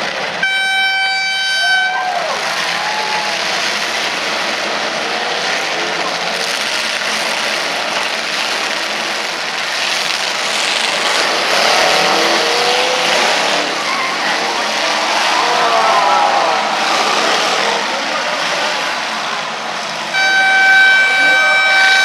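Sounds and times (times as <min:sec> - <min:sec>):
many car engines revving: 0:00.0 - 0:22.0.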